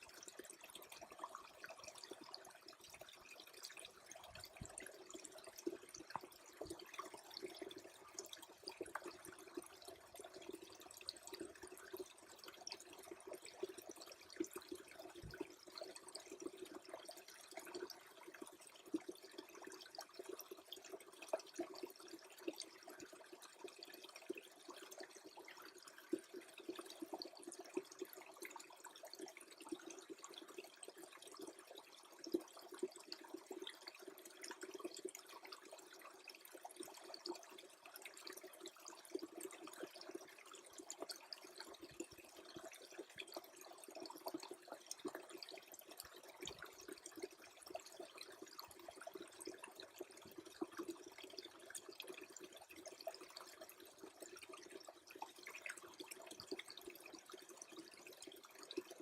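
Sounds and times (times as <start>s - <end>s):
creek water trickling: 0.0s - 59.0s
tiny water drips: 0.0s - 59.0s.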